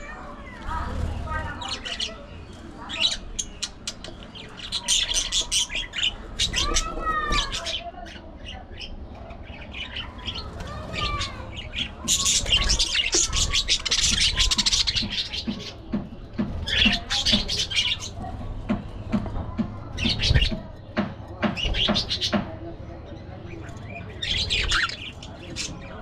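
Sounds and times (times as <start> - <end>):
budgerigars chattering and chirping: 0.6 - 26.0.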